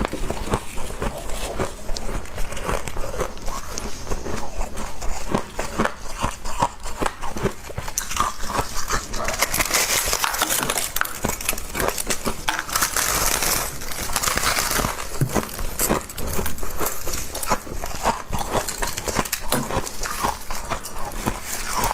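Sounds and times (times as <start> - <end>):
chewing and crunching frost: 0.0 - 21.9.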